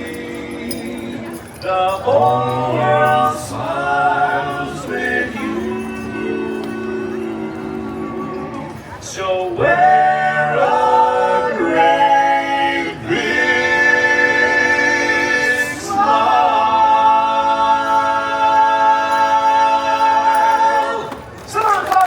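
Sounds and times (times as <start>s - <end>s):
male quartet singing in harmony: 0.0s - 21.3s.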